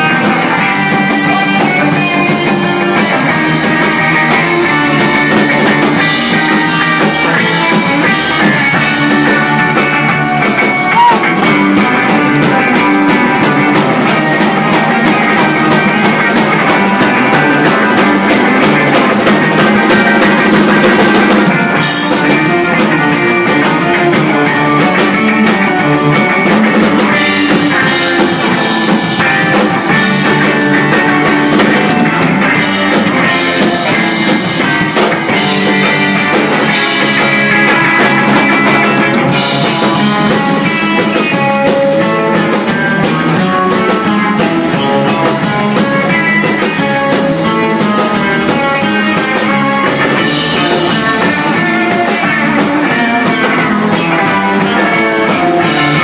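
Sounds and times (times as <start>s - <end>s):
drum kit with cymbals: 0.0s - 56.0s
electric guitars playing melody: 0.0s - 56.0s.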